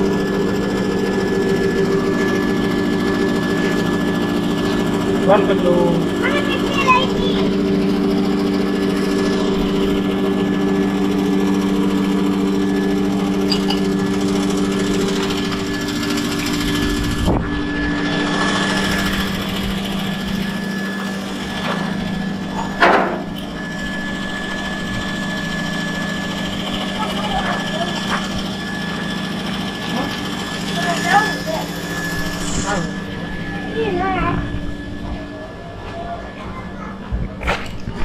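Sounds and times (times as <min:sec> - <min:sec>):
small engine humming: 0:00.0 - 0:38.0.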